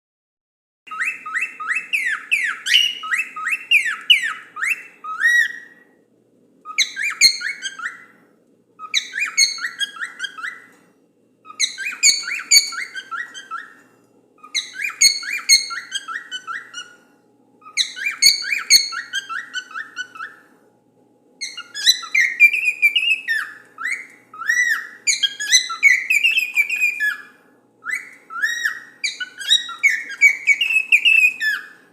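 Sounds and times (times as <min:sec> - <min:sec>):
cockatiel whistling: 0:00.9 - 0:05.8, 0:06.6 - 0:08.2, 0:08.8 - 0:10.8, 0:11.4 - 0:13.8, 0:14.4 - 0:20.5, 0:21.4 - 0:31.9.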